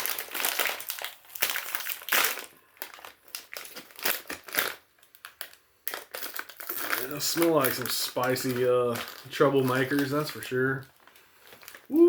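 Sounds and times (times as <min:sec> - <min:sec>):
plastic snack bag crinkling: 0:00.0 - 0:12.0.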